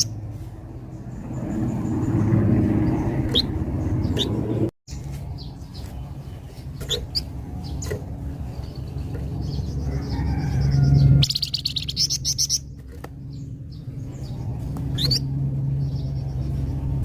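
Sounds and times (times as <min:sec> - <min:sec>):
songbird chirping: 0:01.0 - 0:16.9.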